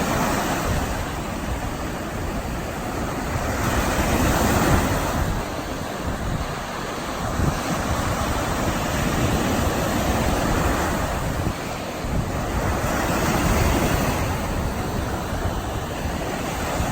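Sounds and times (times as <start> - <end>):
small waves breaking on sand: 0.0 - 16.9.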